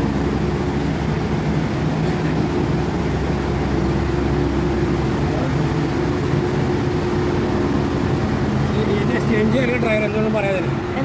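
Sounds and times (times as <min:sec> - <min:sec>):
oil mill machinery droning: 0:00.0 - 0:11.0.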